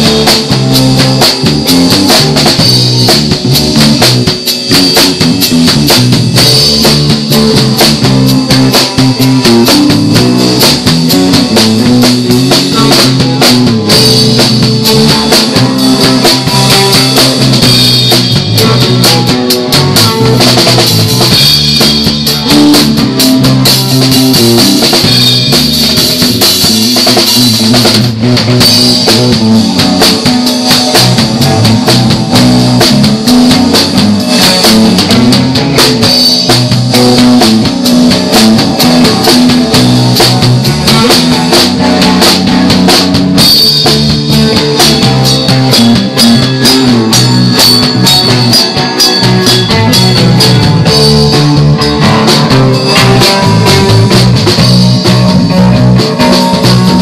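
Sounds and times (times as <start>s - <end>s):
drum kit hit hard: 0.0s - 57.0s
rock band playing live: 0.0s - 57.0s.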